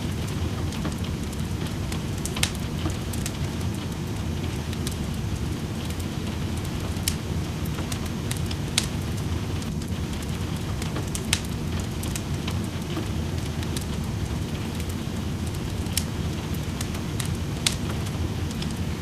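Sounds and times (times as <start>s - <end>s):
rain rushing: 0.0s - 19.0s
wood fire crackling: 0.0s - 19.0s.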